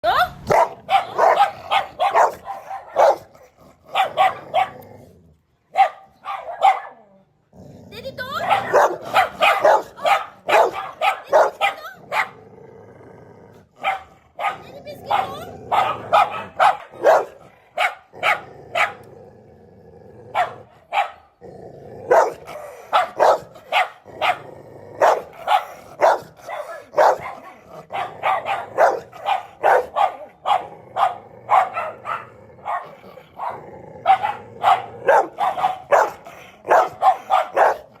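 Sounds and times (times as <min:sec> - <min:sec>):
dogs barking: 0:00.4 - 0:04.8, 0:05.7 - 0:07.1, 0:08.2 - 0:12.4, 0:13.8 - 0:19.1, 0:20.3 - 0:21.4, 0:22.0 - 0:38.0.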